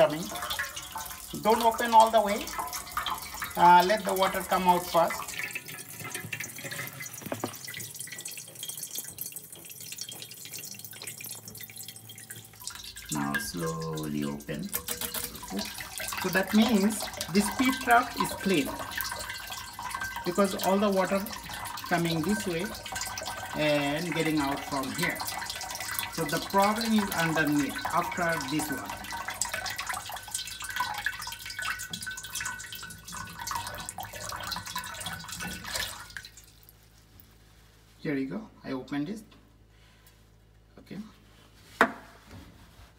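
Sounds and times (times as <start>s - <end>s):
water dripping into metal bowl: 0.0s - 36.8s.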